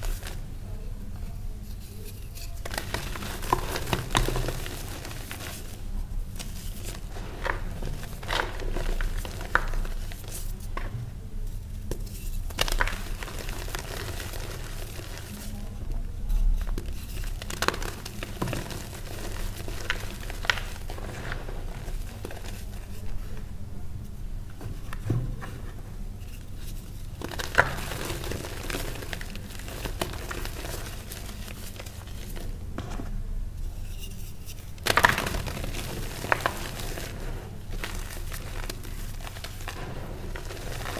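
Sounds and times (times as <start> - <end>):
hands crunching chalk: 0.0 - 0.5, 1.6 - 11.0, 11.8 - 23.5, 26.6 - 33.1, 34.8 - 40.9.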